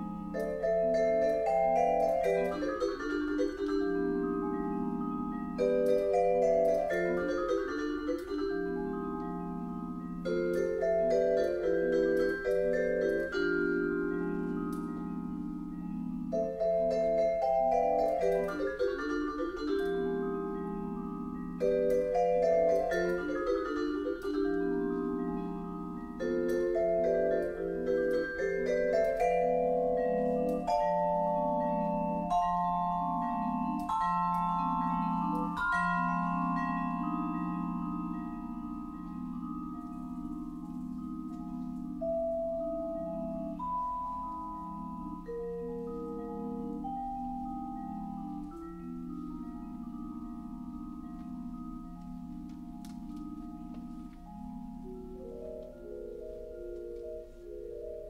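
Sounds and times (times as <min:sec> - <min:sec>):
vibraphone melody: 0:00.0 - 0:58.0.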